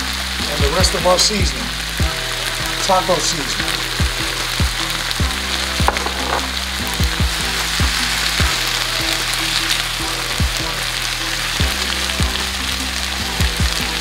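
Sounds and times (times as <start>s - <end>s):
background music with low beat: 0.0s - 14.0s
food sizzling in a skillet: 0.0s - 14.0s.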